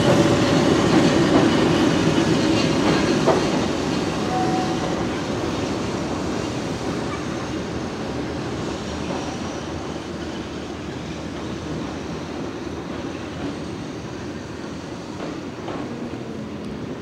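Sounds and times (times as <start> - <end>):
electric train rolling on rails: 0.0 - 17.0.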